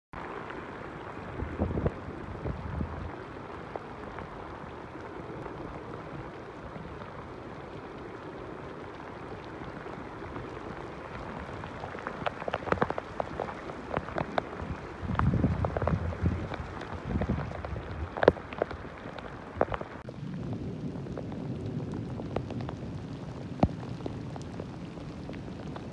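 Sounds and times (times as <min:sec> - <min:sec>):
heavy rain on water and pavement: 0:00.2 - 0:25.9.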